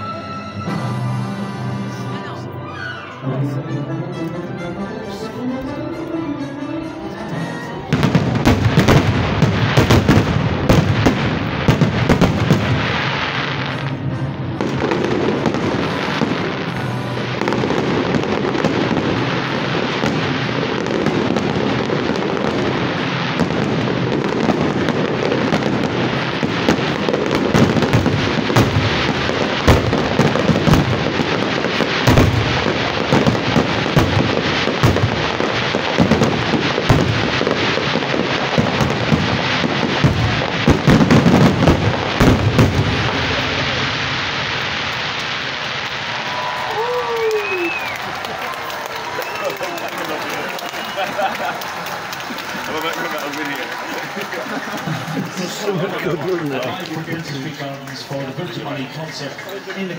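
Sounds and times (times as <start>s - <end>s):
fireworks bursting and crackling: 7.5s - 59.9s.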